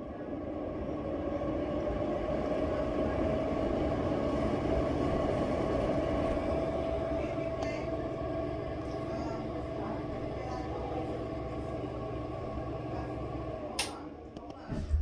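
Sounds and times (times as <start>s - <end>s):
exhaust fan whirring: 0.0s - 15.0s.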